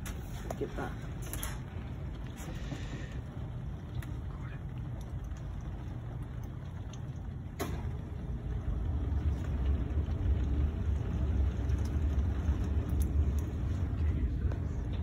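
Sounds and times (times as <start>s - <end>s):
storm wind and rain rumble: 0.0s - 15.0s.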